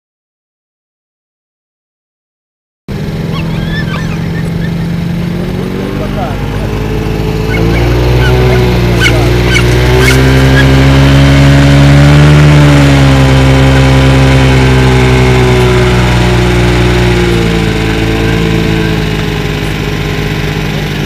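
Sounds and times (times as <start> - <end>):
machine engine running: 2.9 - 21.0.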